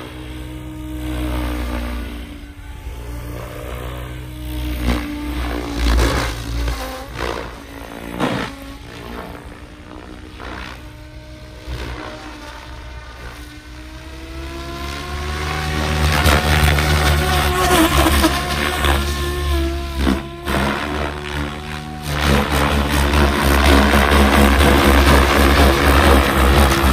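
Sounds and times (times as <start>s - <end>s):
rc helicopter motor and rotor whine: 0.0s - 26.9s
rotor whooshes: 0.0s - 26.9s.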